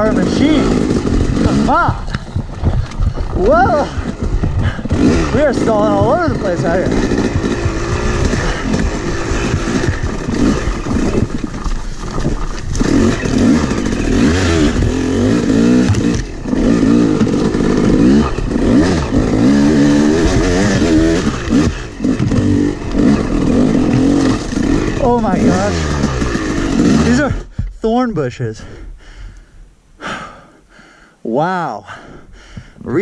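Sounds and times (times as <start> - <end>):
dirt bike engine revving: 0.0 - 27.5.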